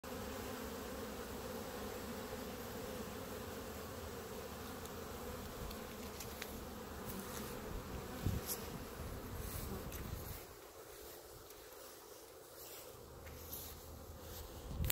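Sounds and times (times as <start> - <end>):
bees buzzing: 0.0 - 14.9.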